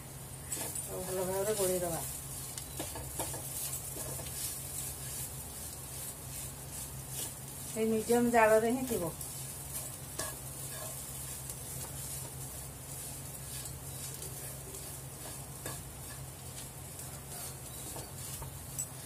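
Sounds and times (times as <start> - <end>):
filling sizzling in frying pan: 0.0 - 19.0
steady low hum: 0.0 - 19.0
wooden spatula scraping pan: 0.5 - 19.0.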